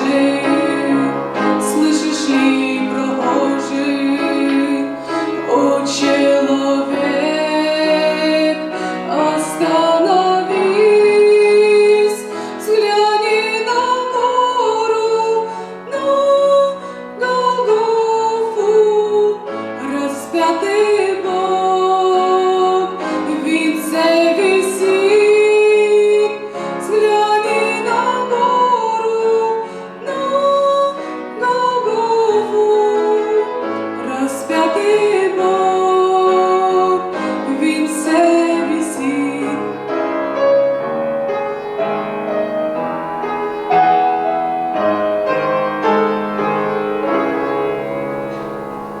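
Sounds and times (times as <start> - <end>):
piano accompaniment: 0.0 - 49.0
woman singing church song: 0.0 - 49.0.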